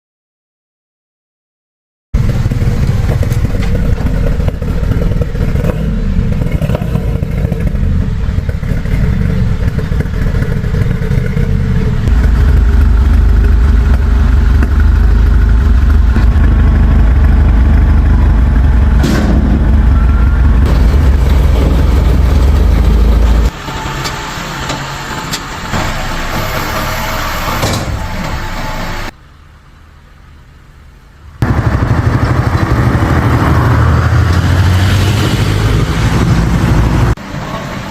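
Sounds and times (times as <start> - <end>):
misfiring car engine rumble: 2.2 - 37.9.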